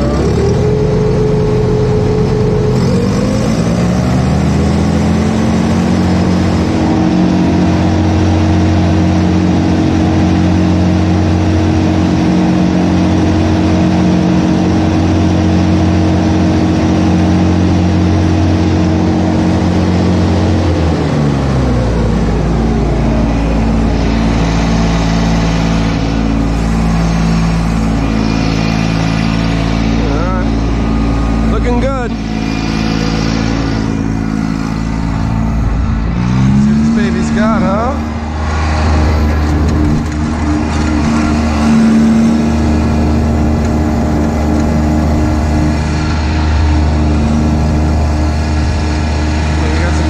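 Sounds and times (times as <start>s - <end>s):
mower engine running: 0.0s - 50.0s.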